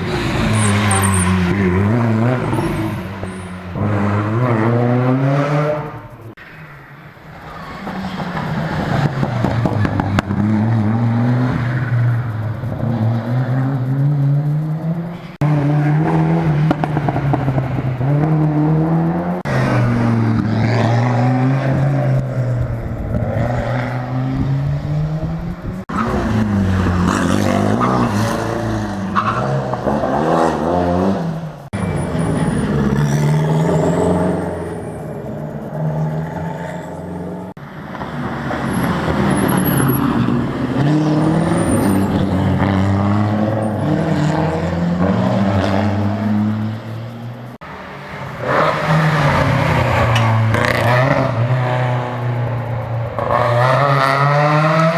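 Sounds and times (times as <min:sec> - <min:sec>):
rally car engines revving: 0:00.0 - 0:06.4, 0:07.3 - 0:54.9.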